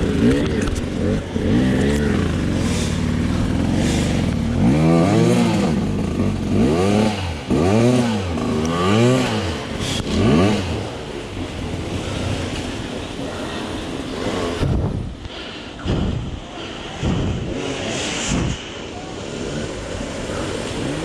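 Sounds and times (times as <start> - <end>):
dirt bike engine revving: 0.0 - 13.0, 17.0 - 21.0.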